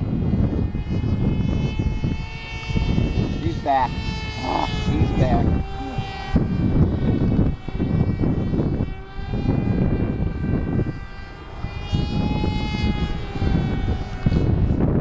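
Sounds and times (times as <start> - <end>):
model airplane propeller whine: 0.0 - 15.0
wind rumbling on microphone: 0.0 - 15.0.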